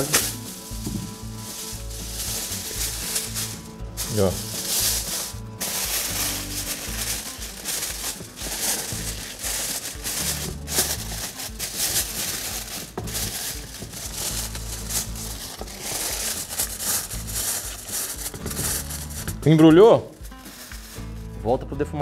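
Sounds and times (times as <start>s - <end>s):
aluminium foil crinkling: 0.0s - 21.4s
background music with bass: 0.0s - 22.0s.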